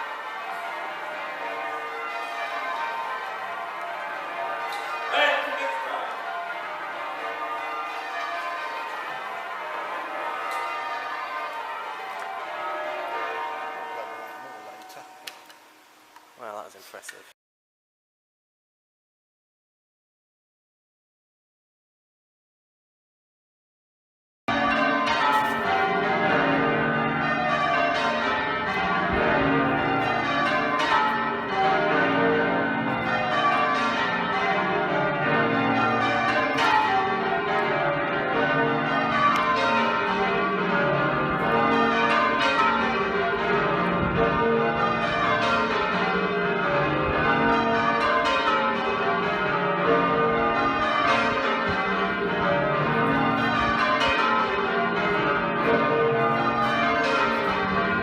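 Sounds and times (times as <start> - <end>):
church bells ringing: 0.0 - 16.6, 24.5 - 58.0.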